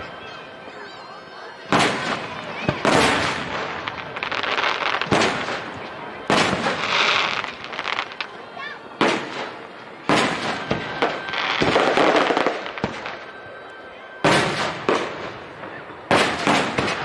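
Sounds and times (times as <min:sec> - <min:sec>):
firework crackling: 0:01.5 - 0:17.0
firework bangs: 0:01.6 - 0:13.4, 0:14.2 - 0:17.0.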